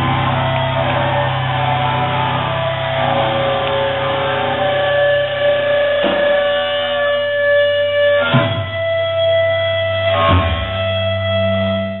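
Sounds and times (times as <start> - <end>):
electric guitars and bass ringing: 0.0 - 12.0
steady low drone: 0.0 - 12.0.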